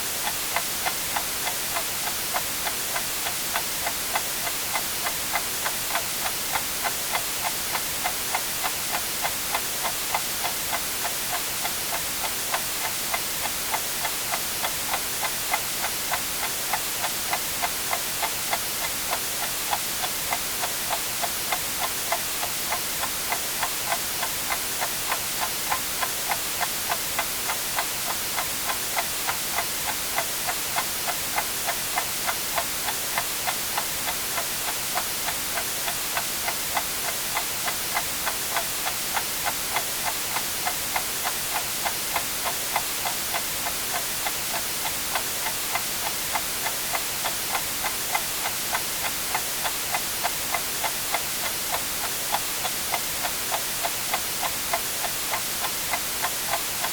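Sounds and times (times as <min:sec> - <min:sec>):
white noise hiss: 0:00.0 - 0:56.9
clock ticking: 0:00.2 - 0:56.9.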